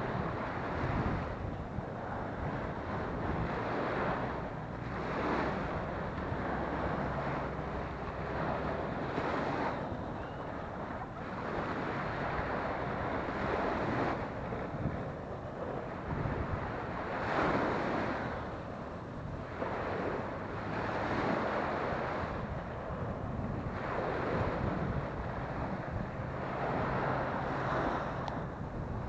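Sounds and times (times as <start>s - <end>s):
small waves breaking on sand: 0.0s - 29.0s
wind buffeting microphone: 0.0s - 29.0s.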